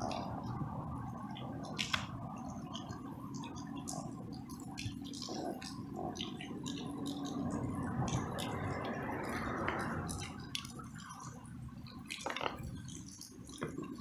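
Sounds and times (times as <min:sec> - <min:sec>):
water dripping and splashing: 0:01.4 - 0:14.0.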